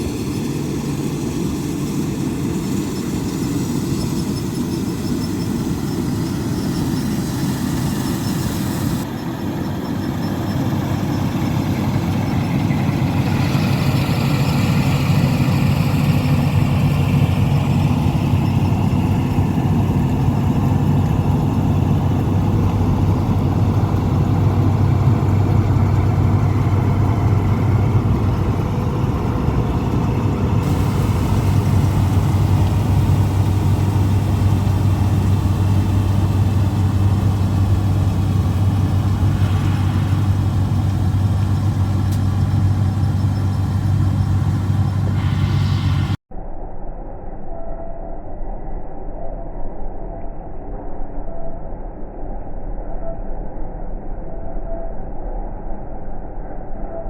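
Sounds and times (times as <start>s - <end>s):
diesel engine humming: 0.0s - 46.2s.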